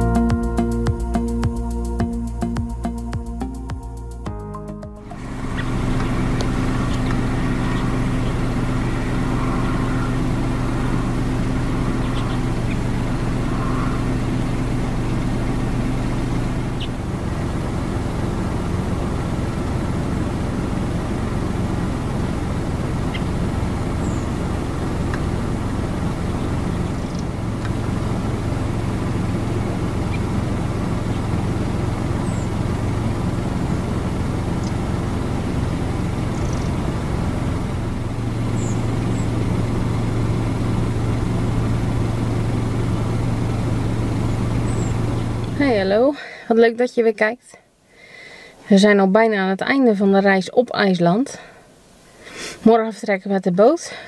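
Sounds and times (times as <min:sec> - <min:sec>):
car engine idling: 0:00.0 - 0:46.4.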